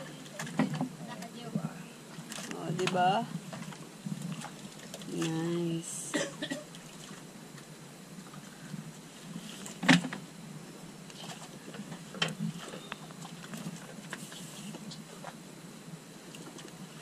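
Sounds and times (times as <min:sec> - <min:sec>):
wind and water hissing: 0:00.0 - 0:17.0.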